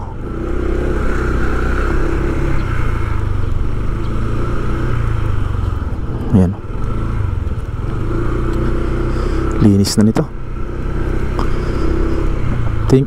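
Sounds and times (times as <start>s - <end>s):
road and wind noise: 0.0s - 13.0s
vehicle engine running: 0.0s - 13.0s.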